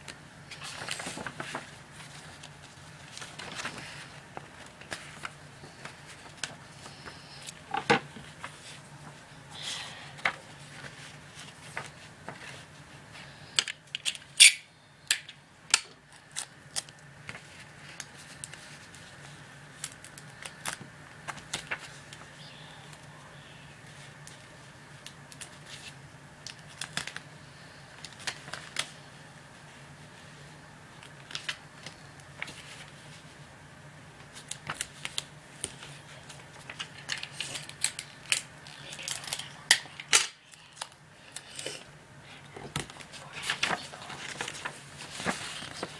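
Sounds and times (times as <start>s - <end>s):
paper crackling and creasing: 0.0s - 9.4s, 10.1s - 13.3s, 16.1s - 33.4s, 34.2s - 41.6s, 42.3s - 45.9s
faint low hum: 0.0s - 45.9s.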